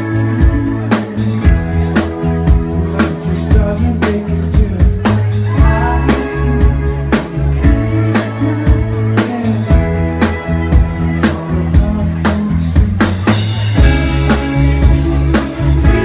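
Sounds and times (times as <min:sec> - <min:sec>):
drum kit beat: 0:00.0 - 0:16.0
live band playing: 0:00.0 - 0:16.0.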